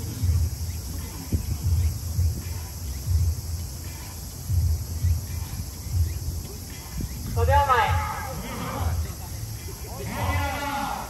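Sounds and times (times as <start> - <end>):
wind rumbling on microphone: 0.0 - 10.6
crickets chirping: 0.0 - 11.0.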